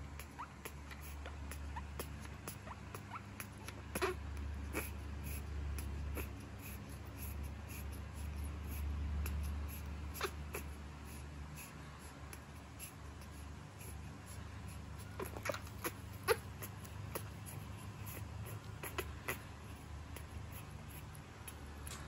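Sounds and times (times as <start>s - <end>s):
baby monkey squeaking: 0.0s - 11.8s, 14.3s - 21.6s
steady low hum: 0.0s - 22.0s.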